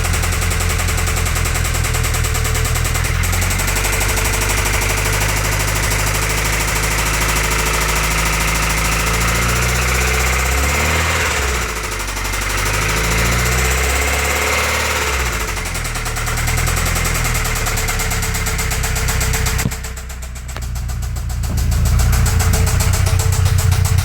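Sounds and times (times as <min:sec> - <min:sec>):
engine running with rhythmic knock: 0:00.0 - 0:24.0.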